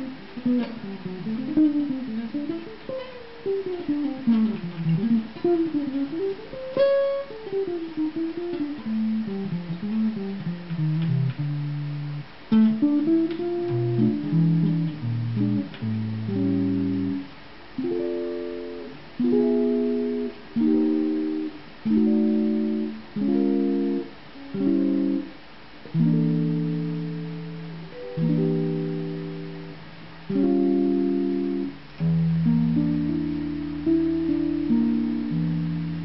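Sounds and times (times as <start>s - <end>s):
electric jazz guitar chords: 0.0s - 36.0s.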